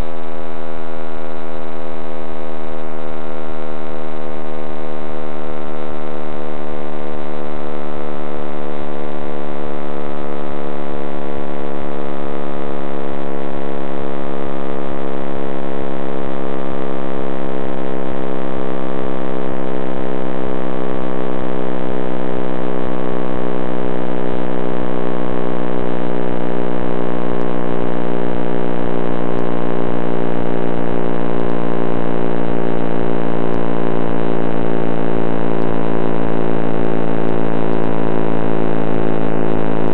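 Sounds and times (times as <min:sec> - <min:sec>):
dense electronic drone: 0:00.0 - 0:39.9.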